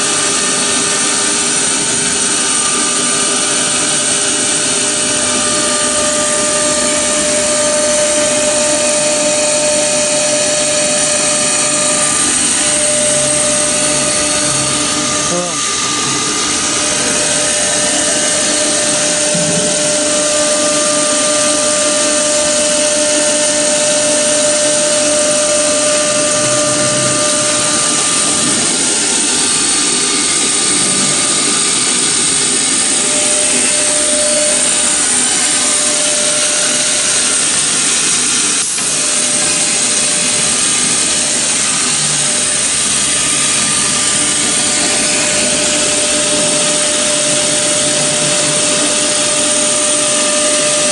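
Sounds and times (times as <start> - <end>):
drilling machine spindle whining: 0.0 - 50.9.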